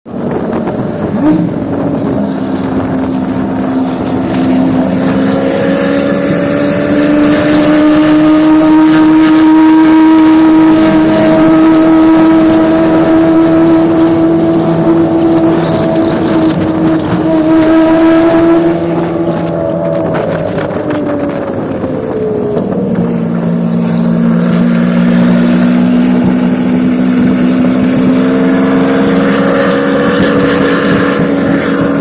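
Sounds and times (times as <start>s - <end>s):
car engine at raised revs: 0.1s - 32.0s.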